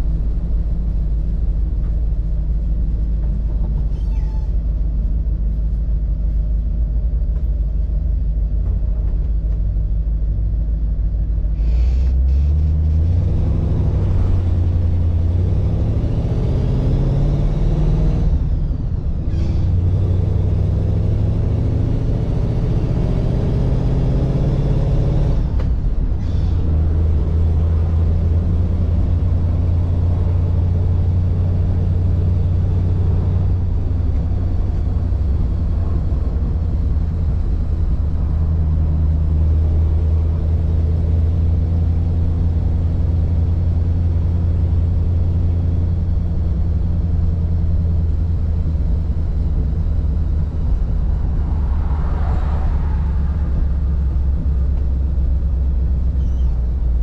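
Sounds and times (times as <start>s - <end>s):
car engine running: 4.6s - 57.0s.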